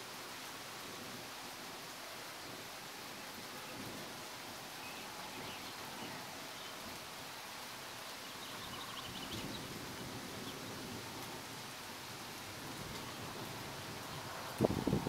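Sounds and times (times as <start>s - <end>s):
stormy outdoor hiss: 0.0s - 15.0s.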